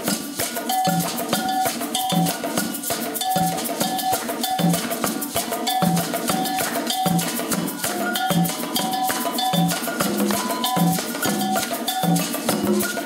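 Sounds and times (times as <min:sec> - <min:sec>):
congas and hand drums: 0:00.0 - 0:13.0
cowbell struck in a pattern: 0:00.0 - 0:13.0.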